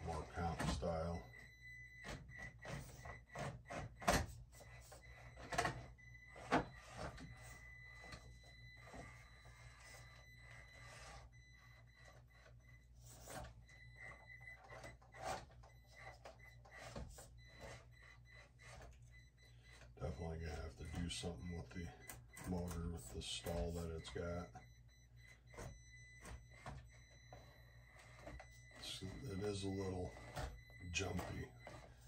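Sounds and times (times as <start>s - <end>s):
toy crawler motor whine: 0.0s - 19.9s, 25.6s - 32.0s.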